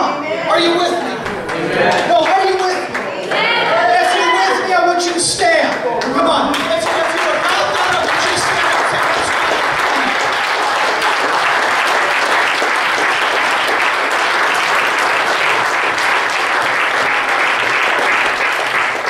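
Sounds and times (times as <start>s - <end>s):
people applauding: 0.6s - 19.0s.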